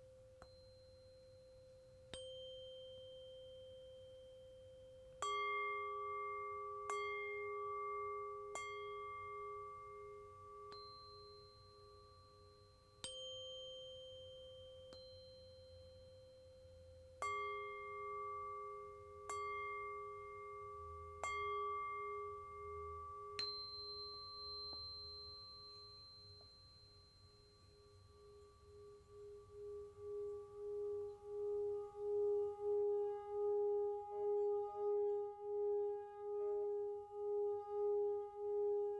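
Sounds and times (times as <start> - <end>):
singing bowl ringing: 0.4 - 16.4, 17.2 - 35.2
tuning forks ringing: 0.4 - 35.2.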